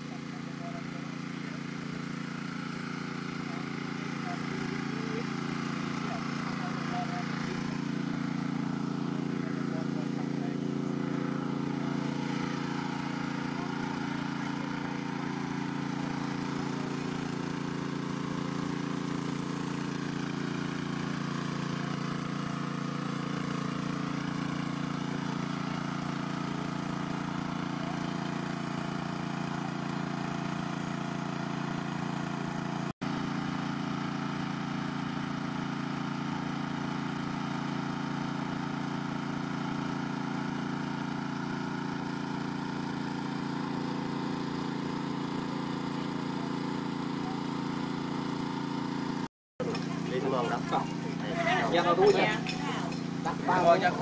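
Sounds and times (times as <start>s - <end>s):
water pump engine running: 0.0s - 54.0s.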